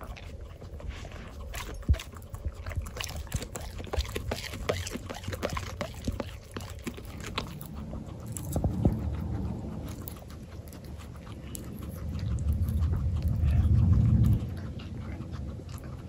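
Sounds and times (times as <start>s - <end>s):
guinea pigs chewing kale: 0.0s - 16.0s.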